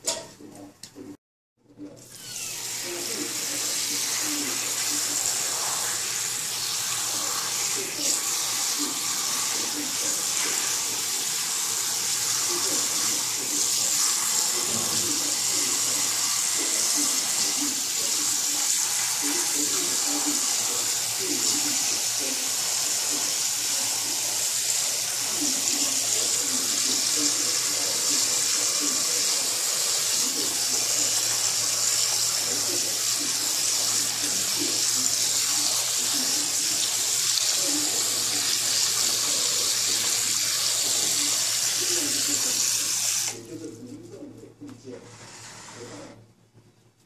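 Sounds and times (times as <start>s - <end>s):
tap water pouring into basin: 2.6s - 43.4s.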